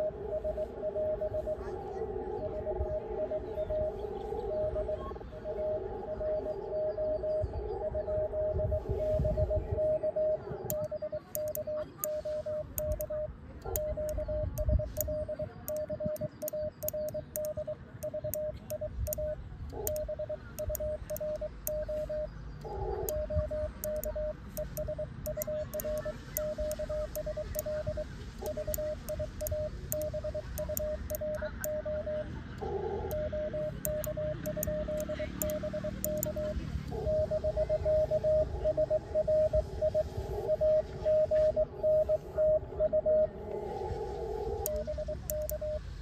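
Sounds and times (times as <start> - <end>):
morse code tone: 0.0 - 1.7, 2.4 - 43.4, 44.5 - 46.0.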